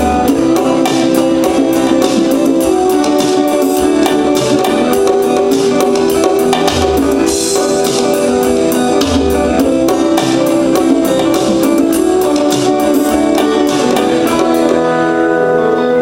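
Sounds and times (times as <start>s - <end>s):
steady drum beat: 0.0s - 15.0s
bass notes: 0.0s - 16.0s
strummed guitar: 0.0s - 16.0s.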